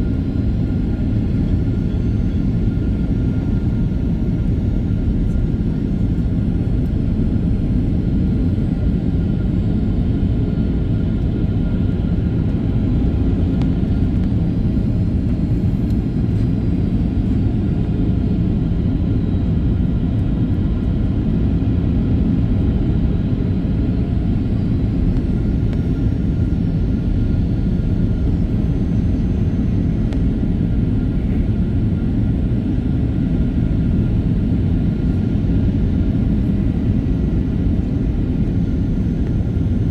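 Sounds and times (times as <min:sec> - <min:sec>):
airplane cabin rumble: 0:00.0 - 0:39.9
faint whine tones: 0:00.0 - 0:39.9.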